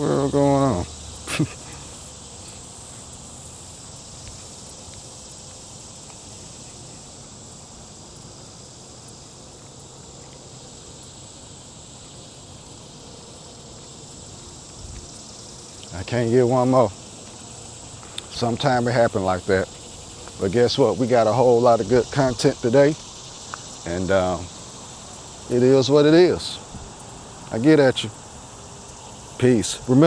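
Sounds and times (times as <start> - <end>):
high-pitched insect buzz: 0.0 - 30.0.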